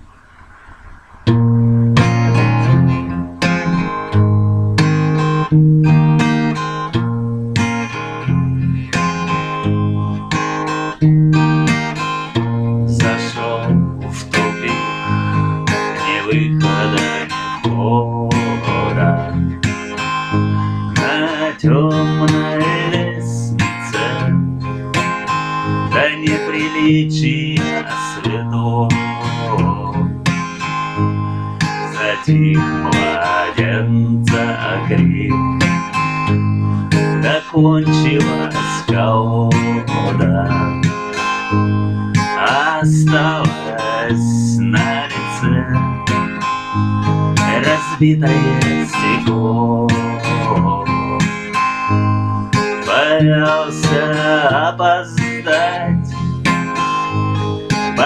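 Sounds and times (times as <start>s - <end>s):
acoustic guitar strumming chords: 1.2s - 58.0s.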